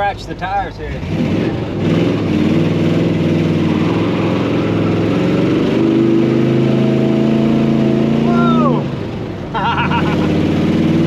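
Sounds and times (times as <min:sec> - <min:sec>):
truck engine accelerating: 0:00.0 - 0:11.0.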